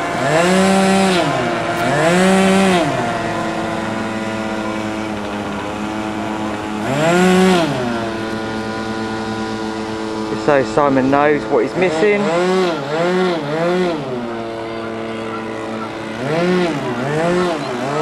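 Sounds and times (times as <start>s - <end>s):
model aircraft engines running: 0.0s - 18.0s
model engine revving: 0.0s - 18.0s.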